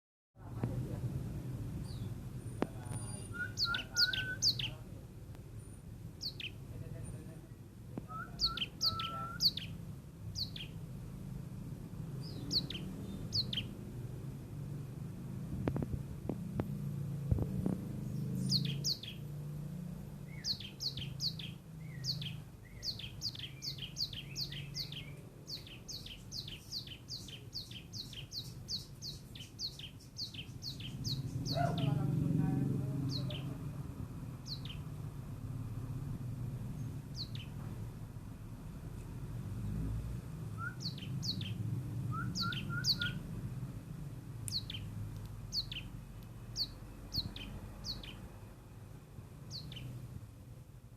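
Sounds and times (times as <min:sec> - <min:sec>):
songbird chirping: 0:00.4 - 0:50.3
low steady rumble: 0:00.4 - 0:50.9.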